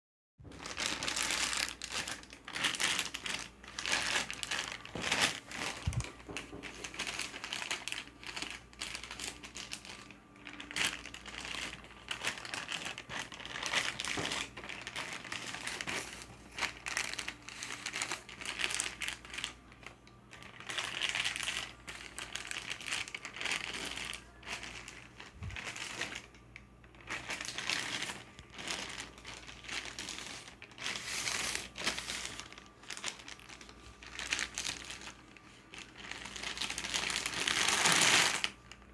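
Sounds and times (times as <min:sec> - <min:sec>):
crinkling and crackling: 0:00.4 - 0:38.9.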